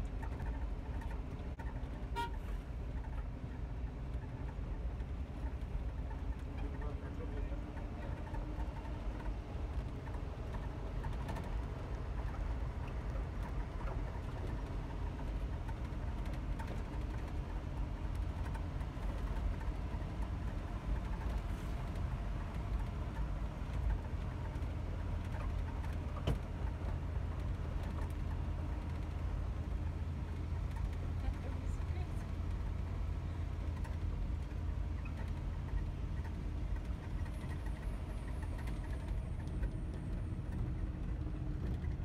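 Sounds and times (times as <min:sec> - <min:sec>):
engine and tyres rumbling: 0:00.0 - 0:42.0.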